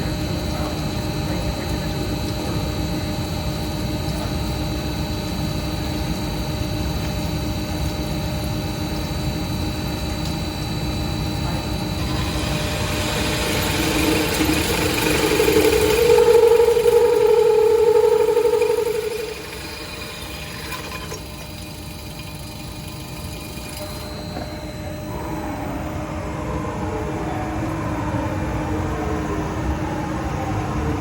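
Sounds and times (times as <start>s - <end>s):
drilling machine hum and whine: 0.0s - 31.0s.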